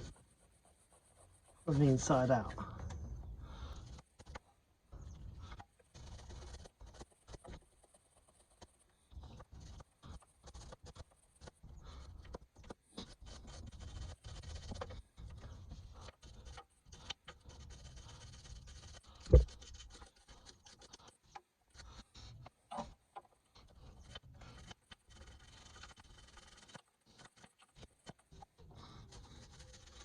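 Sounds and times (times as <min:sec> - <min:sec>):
scraping and scrubbing rust off bolt: 0:03.0 - 0:30.0.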